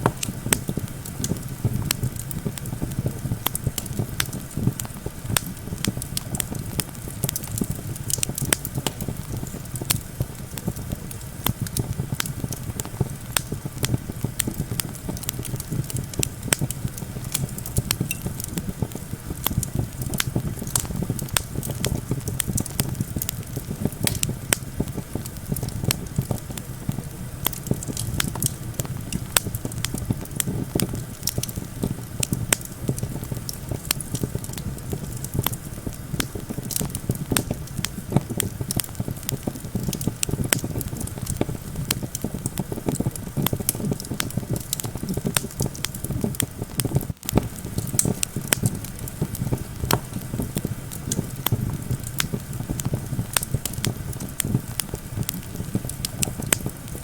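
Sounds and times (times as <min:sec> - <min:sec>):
campfire crackling and popping: 0:00.0 - 0:57.0
low rumble of wind: 0:00.0 - 0:57.0.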